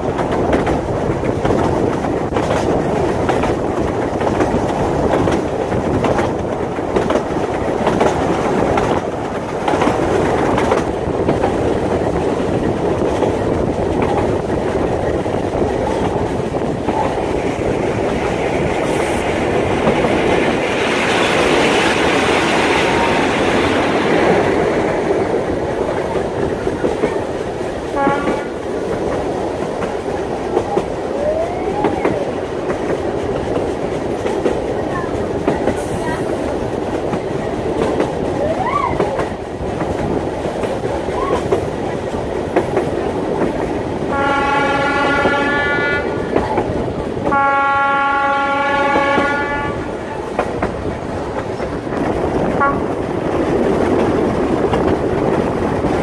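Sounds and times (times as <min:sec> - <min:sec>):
clickety-clack of rail joints: 0:00.0 - 0:56.0
train wheels rumbling on rails: 0:00.0 - 0:56.0.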